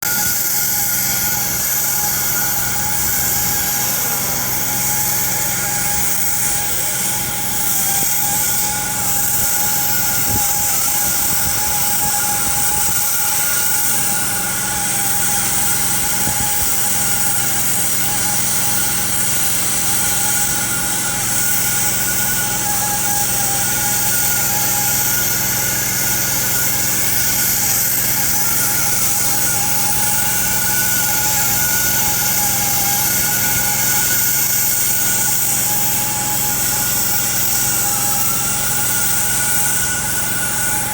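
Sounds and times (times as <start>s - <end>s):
steady whining tones: 0.0s - 40.9s.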